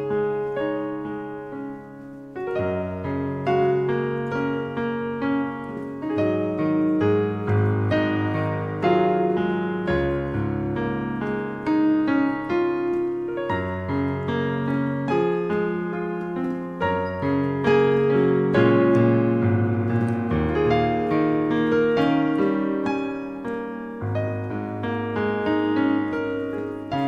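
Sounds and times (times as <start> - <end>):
piano playing melody: 0.0 - 27.0.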